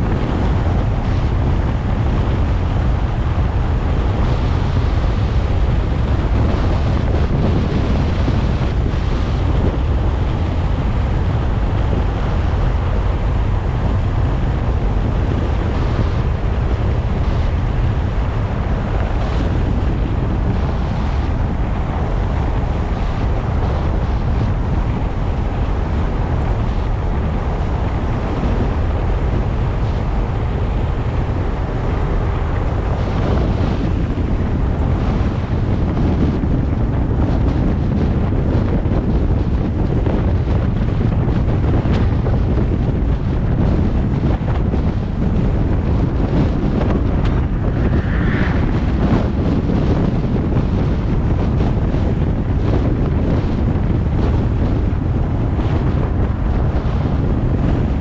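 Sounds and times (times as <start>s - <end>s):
car road rumble: 0.0s - 58.0s
wind rushing over microphone: 0.0s - 58.0s.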